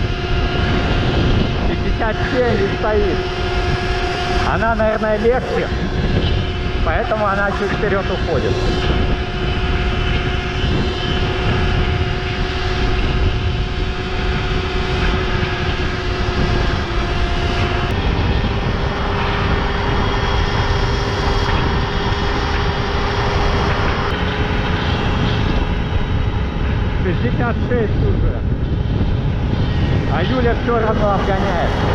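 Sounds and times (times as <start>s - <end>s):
electric motor whine: 0.0s - 31.9s
wind rush on microphone: 0.0s - 31.9s.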